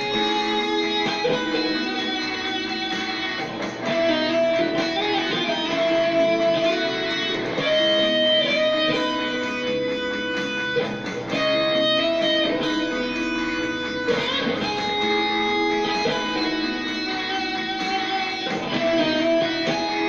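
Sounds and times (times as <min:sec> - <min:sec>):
electric guitar melody: 0:00.0 - 0:20.0.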